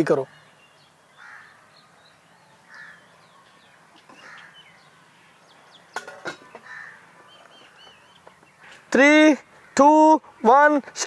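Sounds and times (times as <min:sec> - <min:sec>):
small birds chirping: 0:00.0 - 0:11.0
crows cawing: 0:00.2 - 0:05.3, 0:05.9 - 0:10.3.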